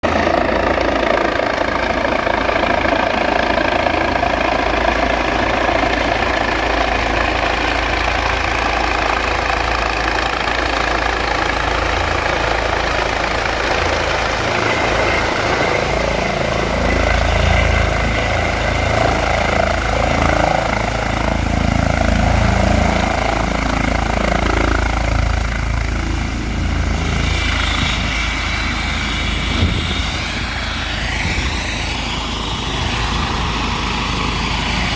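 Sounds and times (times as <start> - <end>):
helicopter rotor noise: 0.0 - 34.9
helicopter turbine whine: 0.0 - 34.9.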